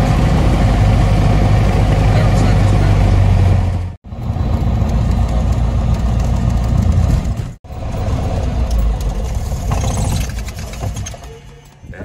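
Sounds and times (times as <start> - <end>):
propeller plane engine droning: 0.0 - 9.7.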